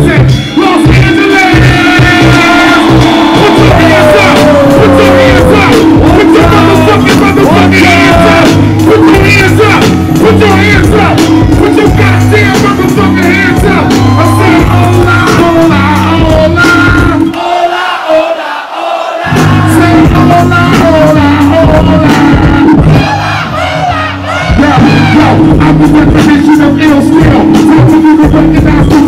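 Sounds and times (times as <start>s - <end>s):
hip hop beat with heavy bass: 0.0s - 17.4s, 19.2s - 29.0s
person singing: 0.8s - 17.8s, 19.3s - 29.0s
crowd cheering: 0.8s - 25.7s.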